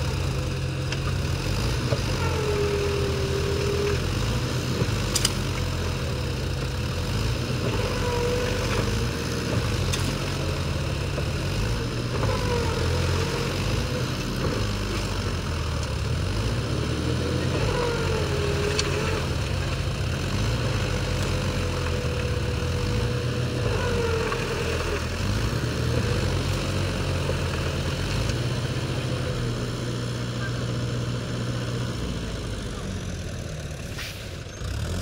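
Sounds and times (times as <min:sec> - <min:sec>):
diesel tractor engines running: 0:00.0 - 0:35.0.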